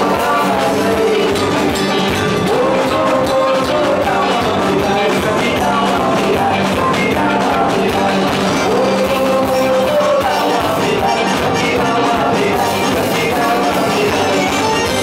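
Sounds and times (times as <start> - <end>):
band with keyboard and guitar: 0.0 - 15.0
man singing into microphone: 0.0 - 15.0.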